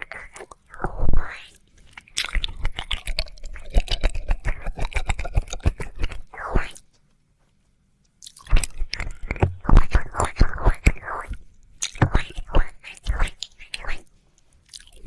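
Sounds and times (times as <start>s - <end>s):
wet mouth licking sounds: 0.0s - 6.8s, 8.2s - 15.0s.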